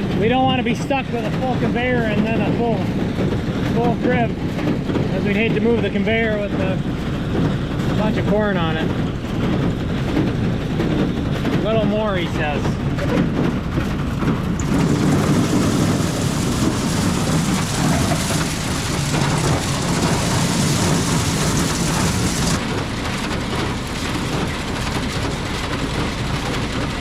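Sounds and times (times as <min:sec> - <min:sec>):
conveyor running: 0:00.0 - 0:27.0
corn rattling up conveyor: 0:00.0 - 0:27.0
tractor engine: 0:00.0 - 0:27.0.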